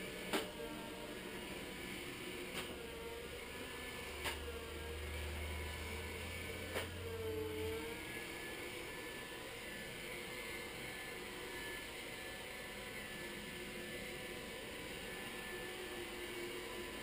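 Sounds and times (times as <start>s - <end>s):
robotic floor scrubber whirring: 0.0s - 17.0s.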